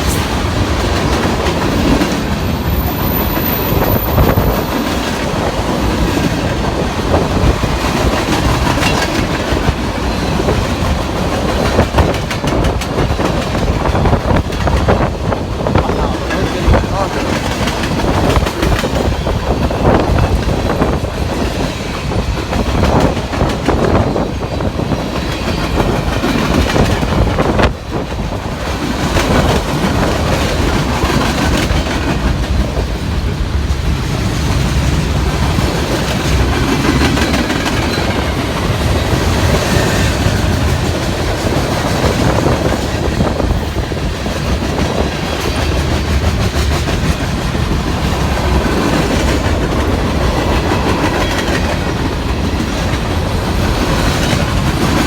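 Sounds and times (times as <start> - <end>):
train wheels clacking over rail joints: 3.3 - 55.0.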